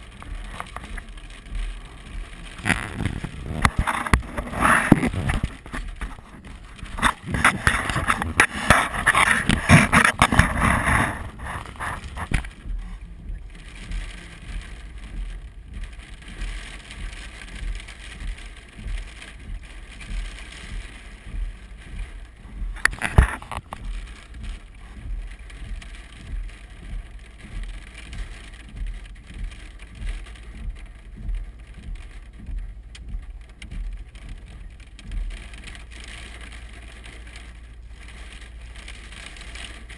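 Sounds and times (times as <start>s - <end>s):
hail drumming on vehicle: 0.0s - 39.9s
regular low pulse: 0.0s - 39.9s.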